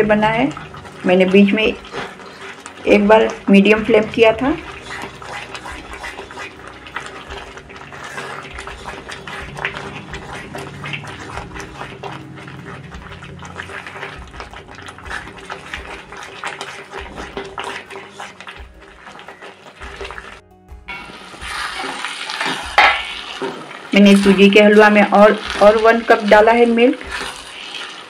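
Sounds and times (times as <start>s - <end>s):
liquid sloshing: 0.0s - 20.5s, 21.1s - 28.0s
spatula scraping metal pan: 0.0s - 28.0s.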